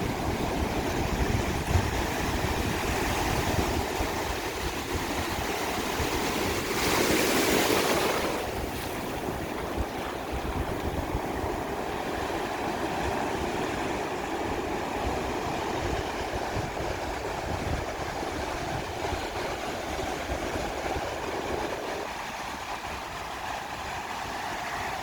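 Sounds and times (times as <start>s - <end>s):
sea waves breaking on beach: 0.0s - 25.0s
wind buffeting microphone: 0.0s - 25.0s.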